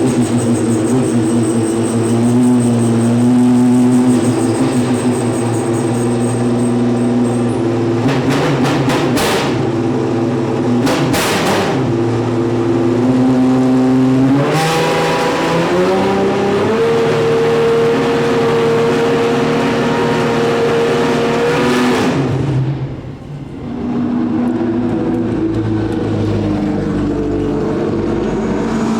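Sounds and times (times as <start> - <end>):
racing car engine: 0.0 - 28.9.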